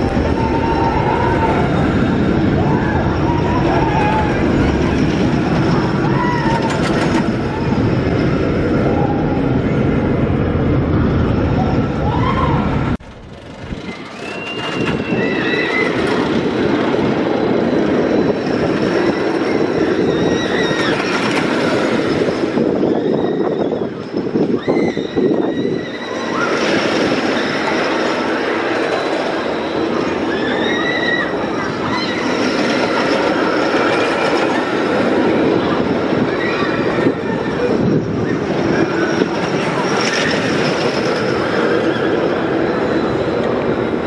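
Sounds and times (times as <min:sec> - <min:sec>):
roller coaster rumbling on rails: 0:00.0 - 0:44.0.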